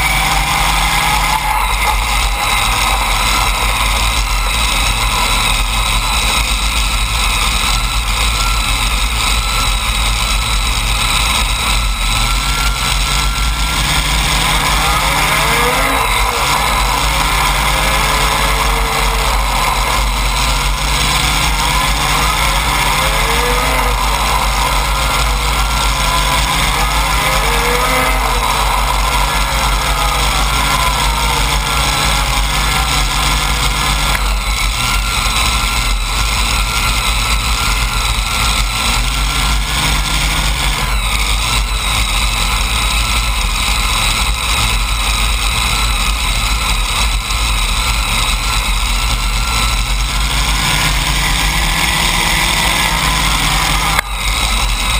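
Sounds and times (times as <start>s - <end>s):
engines idling: 0.0s - 54.9s.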